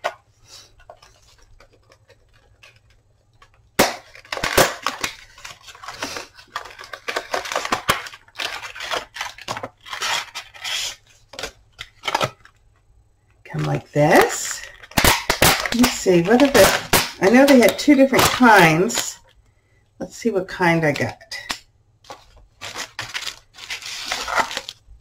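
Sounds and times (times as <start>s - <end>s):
packaging crinkling: 0.0s - 12.8s, 13.6s - 19.3s, 22.0s - 25.0s.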